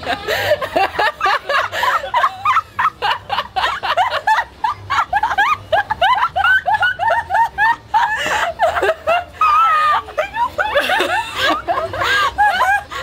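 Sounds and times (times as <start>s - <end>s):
people giggling: 0.0s - 13.0s.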